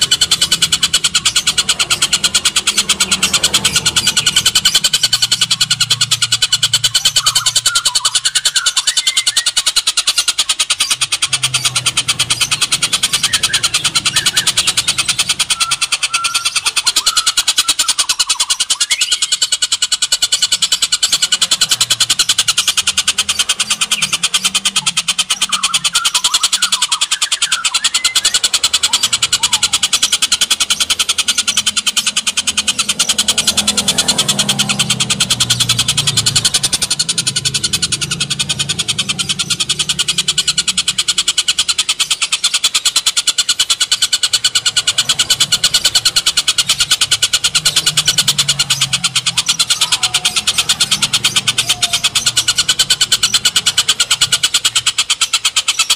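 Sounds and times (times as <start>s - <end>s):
bird harsh rapid call: 0.0s - 55.9s.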